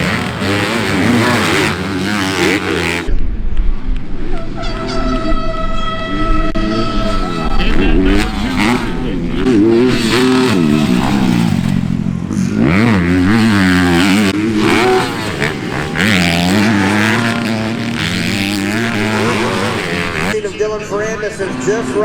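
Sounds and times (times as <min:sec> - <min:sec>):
motocross bike engines revving: 0:00.0 - 0:03.1, 0:04.6 - 0:22.0.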